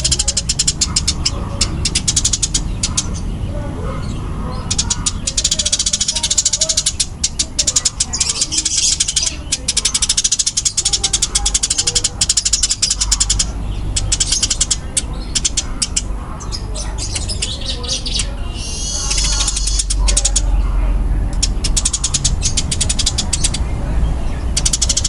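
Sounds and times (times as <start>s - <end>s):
sparrows chattering chirps: 0.0s - 25.0s.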